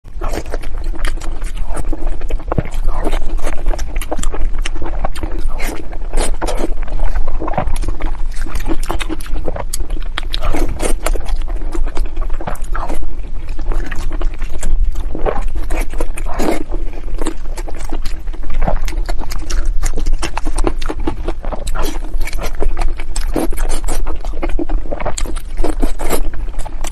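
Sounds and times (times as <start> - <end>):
chewing and lip-smacking: 0.1 - 26.9.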